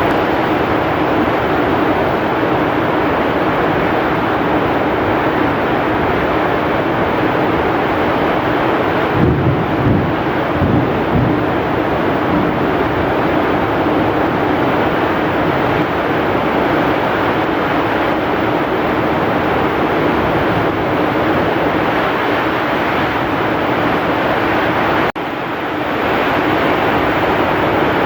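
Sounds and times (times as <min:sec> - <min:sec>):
heavy rain: 0:00.0 - 0:28.0
strong wind: 0:00.0 - 0:28.0.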